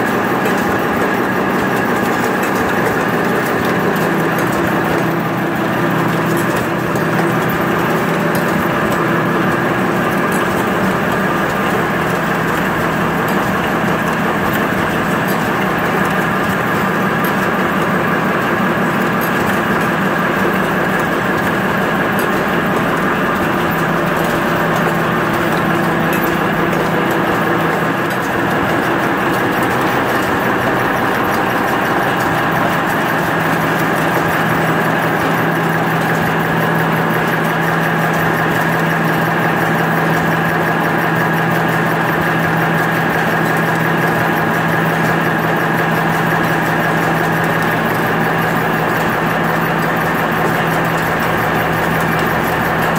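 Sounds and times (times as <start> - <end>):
machine humming: 0.0 - 52.9.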